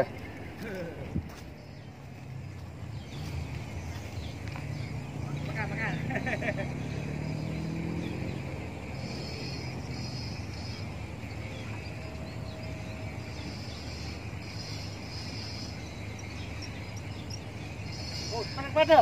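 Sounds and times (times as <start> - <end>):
insects chirring: 0.0 - 19.0
low outdoor rumble: 0.0 - 19.0.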